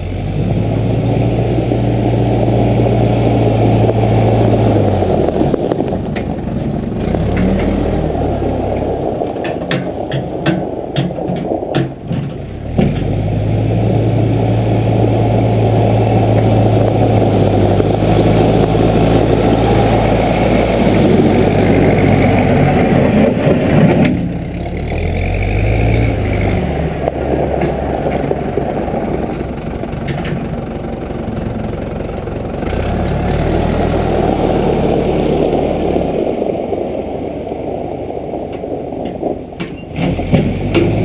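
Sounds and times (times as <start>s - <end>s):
backhoe engine running: 0.0s - 41.0s.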